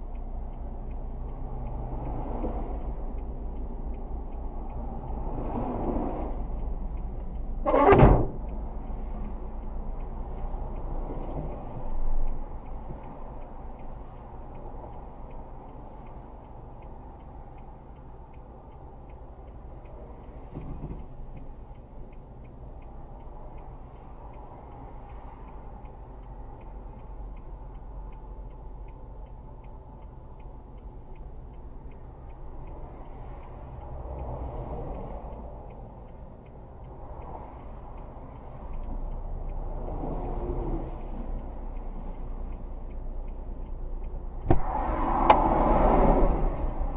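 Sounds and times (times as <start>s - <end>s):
car indicator ticking: 0.0s - 45.5s
engine and road noise: 0.0s - 46.9s.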